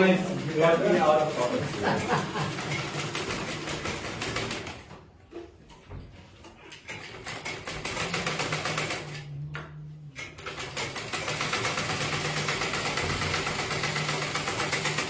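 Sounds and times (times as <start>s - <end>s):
sewing machine stitching: 0.0s - 5.0s, 6.8s - 9.4s, 10.2s - 15.0s.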